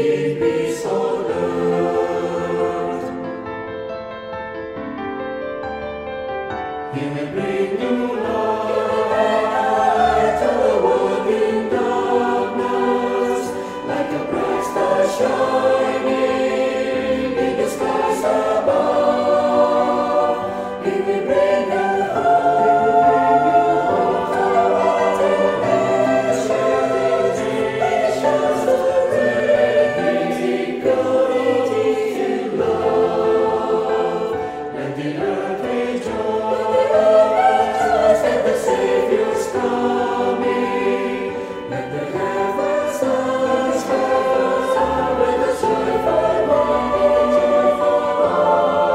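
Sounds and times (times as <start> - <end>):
church choir singing: 0.0 - 5.0, 6.7 - 48.9.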